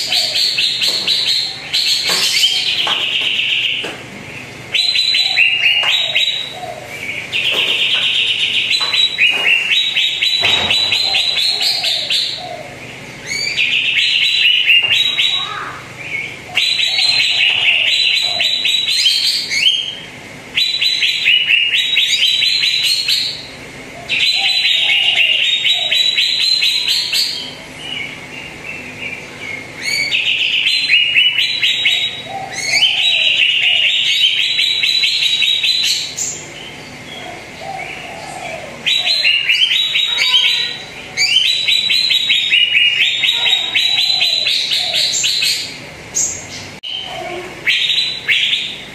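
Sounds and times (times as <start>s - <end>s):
bird singing trilled phrases: 0.0s - 48.9s.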